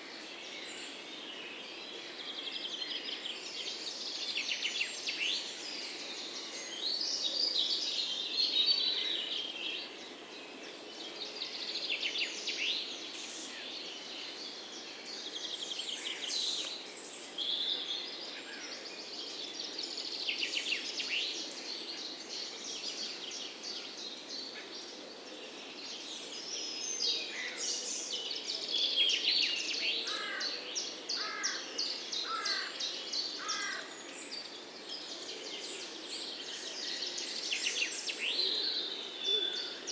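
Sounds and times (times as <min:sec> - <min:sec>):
outdoor background hiss: 0:00.0 - 0:39.9
songbirds chirping and singing: 0:00.0 - 0:39.9.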